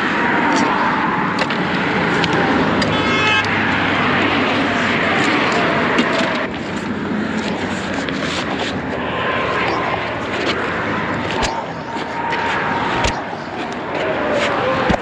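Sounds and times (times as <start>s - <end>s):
passing cars traffic noise: 0.0s - 15.0s.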